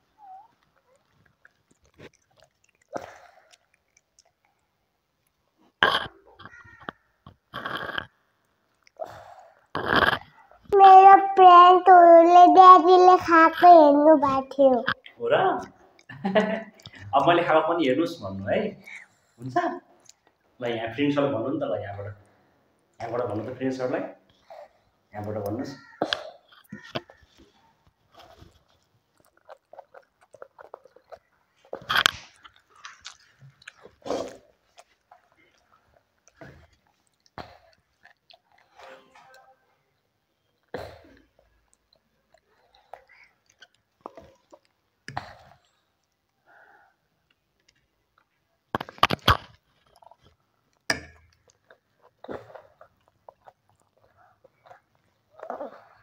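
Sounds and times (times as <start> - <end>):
child chewing and slurping: 0.0 - 16.1, 24.3 - 56.0.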